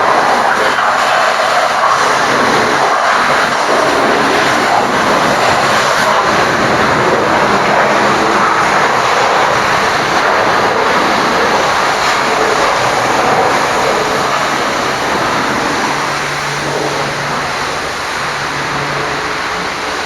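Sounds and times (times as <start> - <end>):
pressure washer spraying water: 0.0 - 20.0.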